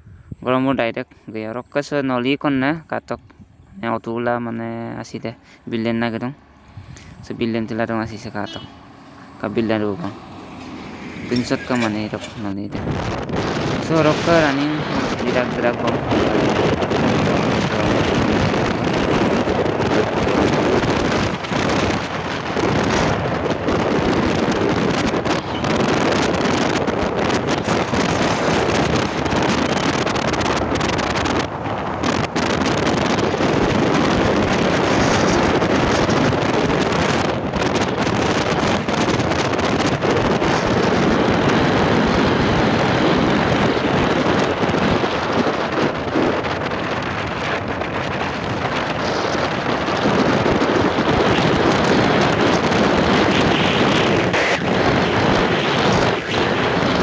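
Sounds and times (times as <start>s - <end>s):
wind buffeting microphone: 0.0s - 1.0s, 1.6s - 57.0s.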